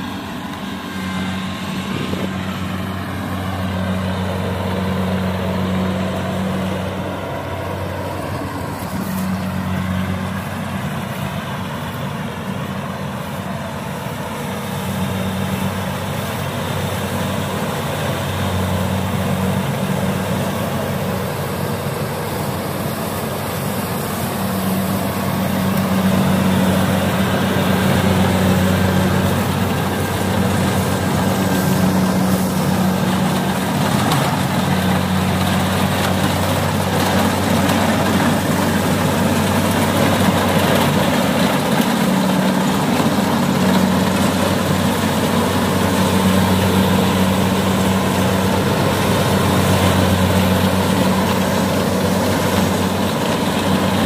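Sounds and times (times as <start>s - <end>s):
combine harvester diesel engine: 0.0s - 54.0s.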